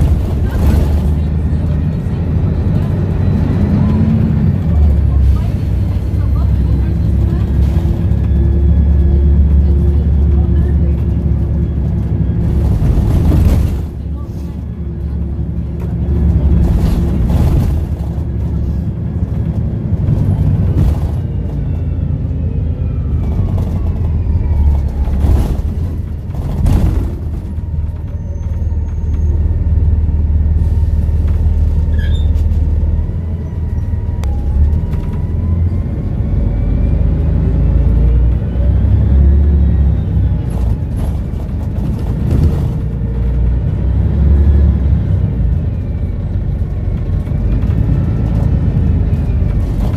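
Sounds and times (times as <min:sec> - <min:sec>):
bus engine rumbling: 0:00.0 - 0:49.9.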